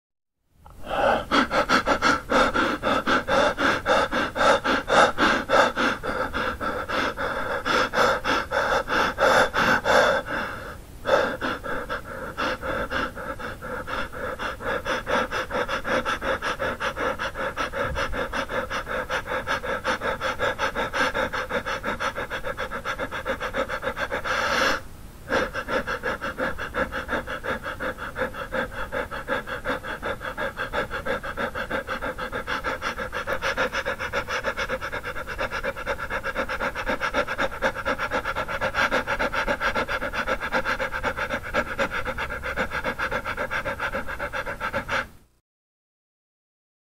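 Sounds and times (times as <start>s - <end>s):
man panting: 0.7s - 45.4s.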